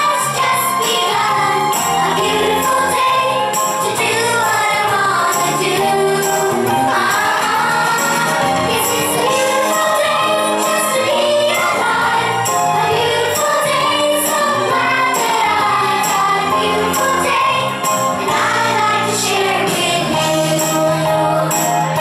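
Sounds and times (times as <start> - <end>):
children singing: 0.0 - 22.0
pop music with steady beat: 0.0 - 22.0.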